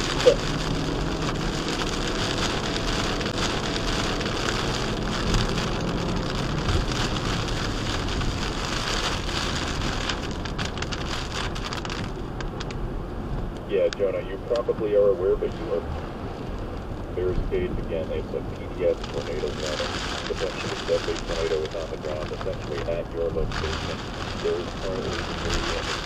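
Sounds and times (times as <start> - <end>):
heavy rain on windshield: 0.0 - 26.0
raindrop ticks: 0.0 - 26.0
tyre spray and road noise: 0.0 - 26.0.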